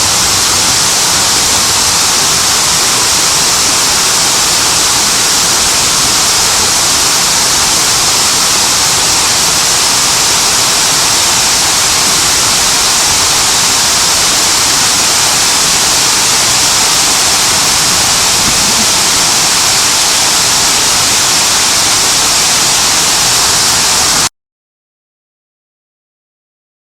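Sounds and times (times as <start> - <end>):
fountain water rushing: 0.0 - 24.3.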